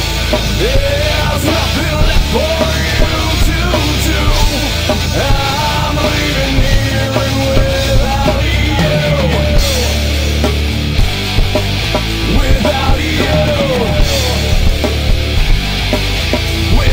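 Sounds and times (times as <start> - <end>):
loud rock music: 0.0 - 16.9
held vocal or lead line: 0.3 - 16.9.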